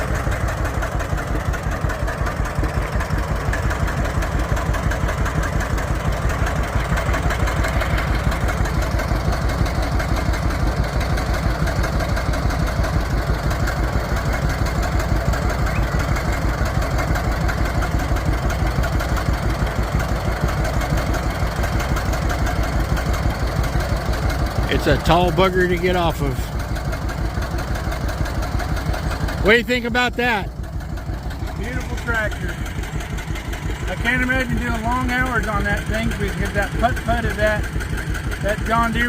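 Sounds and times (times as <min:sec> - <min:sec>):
tractor engine putt-putt: 0:00.0 - 0:39.0.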